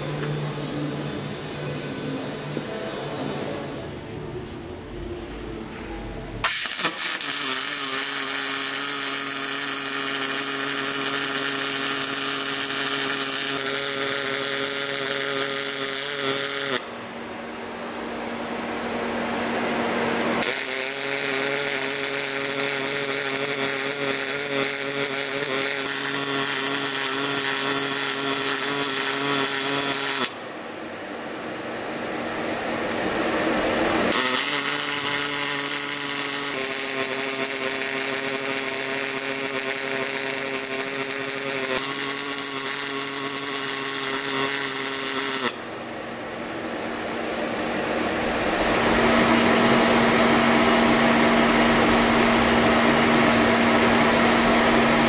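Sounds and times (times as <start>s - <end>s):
steady machine hum: 0.0s - 55.0s
welding arc buzz: 6.1s - 55.0s.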